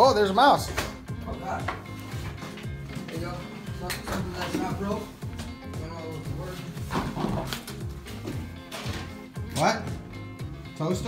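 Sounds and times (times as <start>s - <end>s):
background music with low tones: 0.0s - 11.0s.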